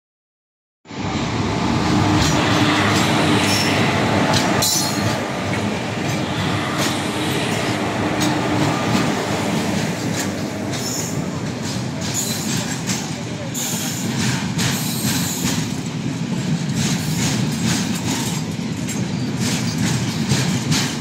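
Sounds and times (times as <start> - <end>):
steel wheels rumbling on rail: 0.9 - 21.0.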